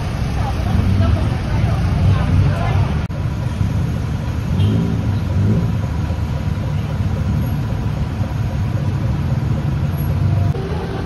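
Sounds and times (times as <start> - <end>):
city street car traffic: 0.0 - 11.0.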